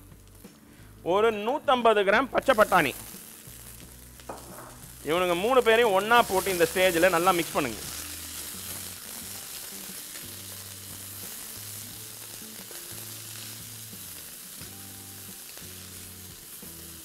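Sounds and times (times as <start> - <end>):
quiet background music: 0.0 - 17.0
vegetables sizzling in oil: 2.1 - 17.0.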